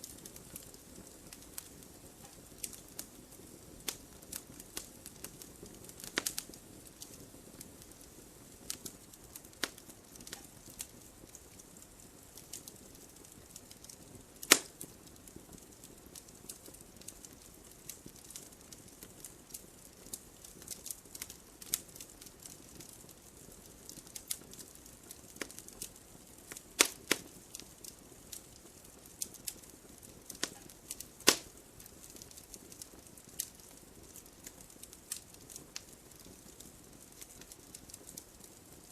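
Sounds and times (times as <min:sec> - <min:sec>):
loud fire snaps: 0:00.0 - 0:38.9
wood fire crackling: 0:00.0 - 0:38.9.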